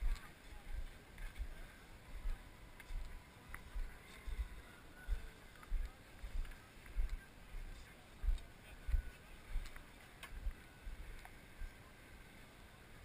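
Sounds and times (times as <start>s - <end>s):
distant crowd chatter: 0.0s - 13.0s.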